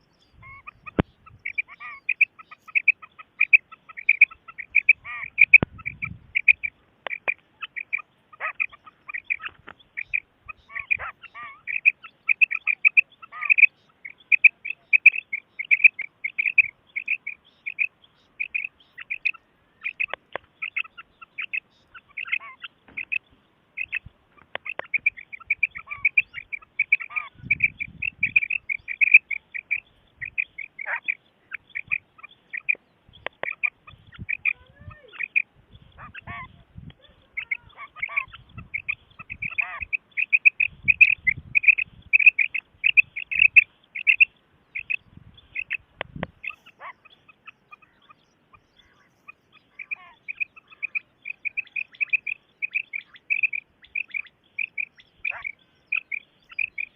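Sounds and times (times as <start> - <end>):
quail calling: 0.0 - 56.9.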